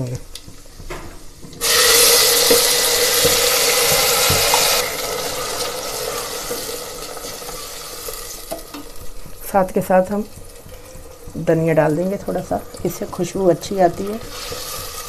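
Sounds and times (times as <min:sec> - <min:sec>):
paste sizzling in hot oil: 0:00.7 - 0:15.0
wooden spatula stirring: 0:02.4 - 0:15.0.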